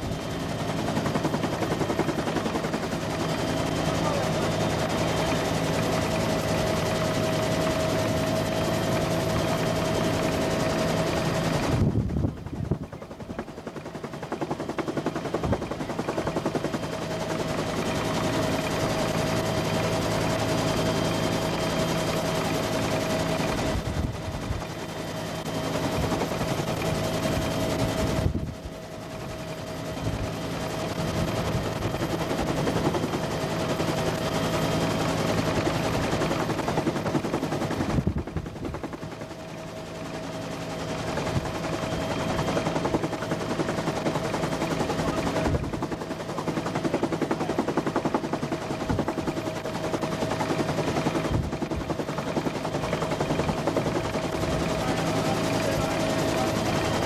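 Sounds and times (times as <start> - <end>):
helicopter engine whine: 0.0 - 57.0.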